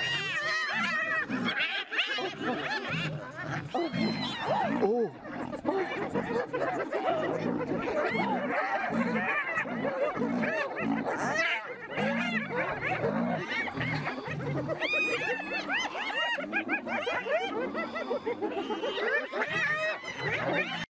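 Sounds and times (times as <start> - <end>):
hyenas yelping and giggling: 0.0 - 20.9.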